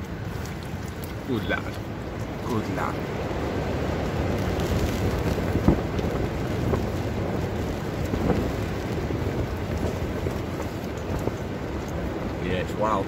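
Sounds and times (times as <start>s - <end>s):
wind buffeting tent: 0.0s - 13.0s.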